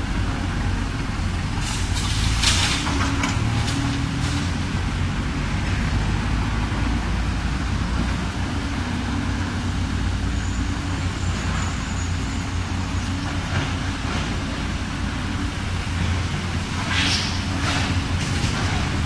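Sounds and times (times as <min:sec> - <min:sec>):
heavy diesel engines droning: 0:00.0 - 0:19.0.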